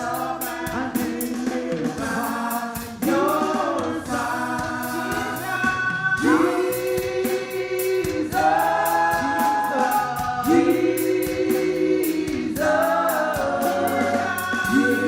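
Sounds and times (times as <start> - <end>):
instrumental accompaniment: 0.0 - 15.0
steady ticking beat: 0.0 - 15.0
voices singing held notes: 0.0 - 15.0.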